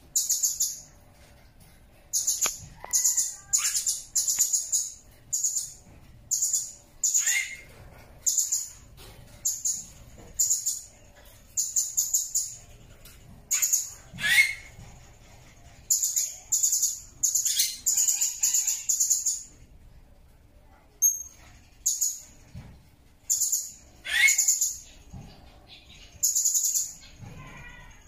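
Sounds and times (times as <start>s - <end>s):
parrot high-pitched chirping: 0.1s - 0.9s, 2.1s - 19.6s, 21.0s - 22.3s, 23.2s - 28.0s.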